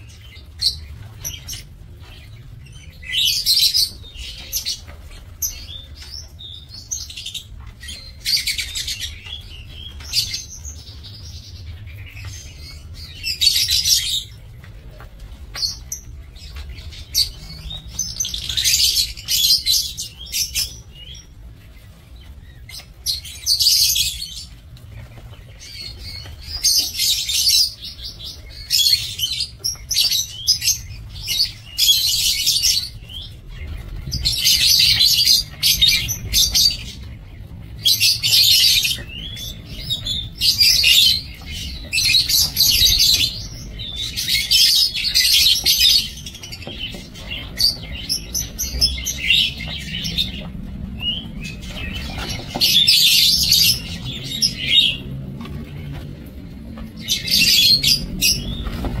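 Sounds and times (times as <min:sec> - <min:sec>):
faint low rumble: 0:00.0 - 0:59.0
lovebirds chattering: 0:00.0 - 0:59.0.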